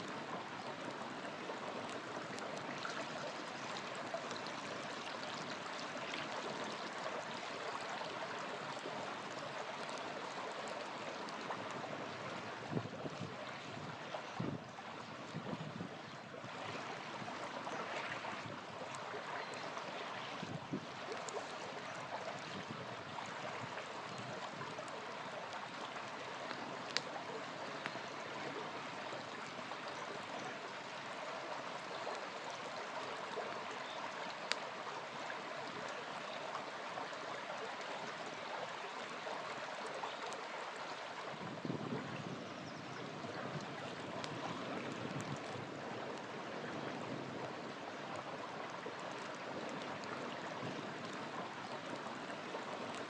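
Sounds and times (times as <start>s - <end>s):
campfire crackling: 0.0s - 41.2s, 43.4s - 53.0s
small river flowing: 0.0s - 53.0s.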